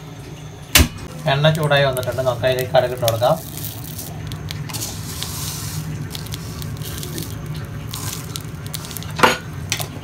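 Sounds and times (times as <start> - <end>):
seeds sizzling in hot oil: 1.2 - 10.0.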